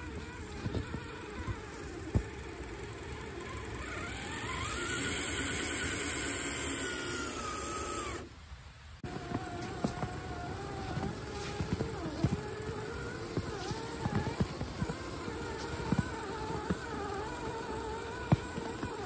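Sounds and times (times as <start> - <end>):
electric motor whining: 0.0 - 8.3, 9.0 - 19.0.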